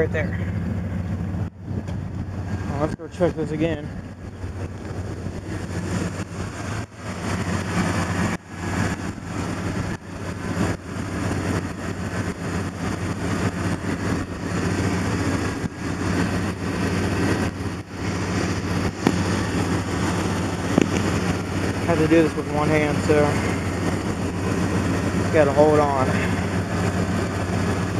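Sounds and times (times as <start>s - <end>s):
vehicle engine idling: 0.0s - 27.9s.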